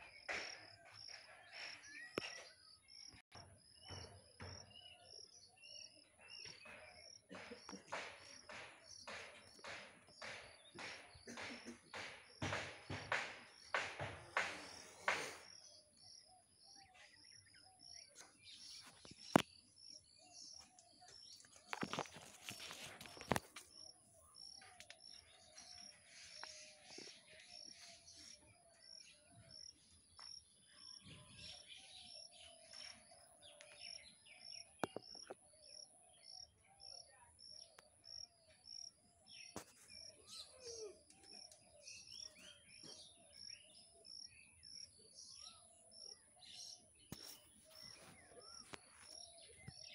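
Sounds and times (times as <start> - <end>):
bird chirping: 0.0 - 49.9
soft bird calls: 0.0 - 49.9.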